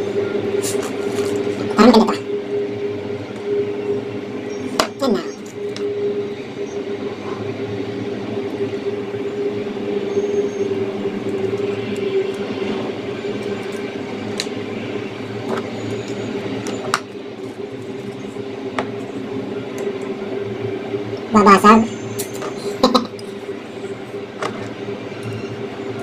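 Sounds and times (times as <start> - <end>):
steady hum with held tone: 0.0 - 26.0.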